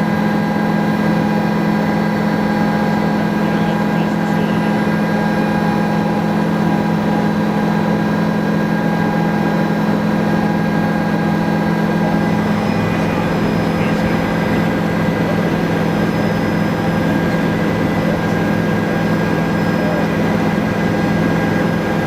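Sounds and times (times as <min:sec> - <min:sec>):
helicopter engine and rotor drone: 0:00.0 - 0:22.0
whining tones: 0:01.7 - 0:07.7, 0:10.0 - 0:22.0.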